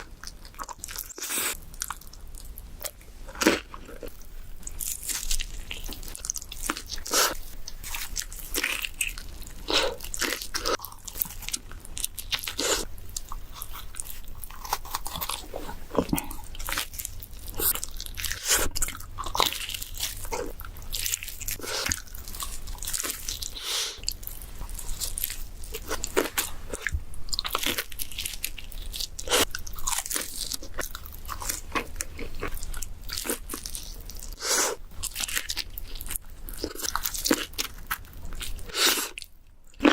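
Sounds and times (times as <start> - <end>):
chewing: 0.0 - 39.9.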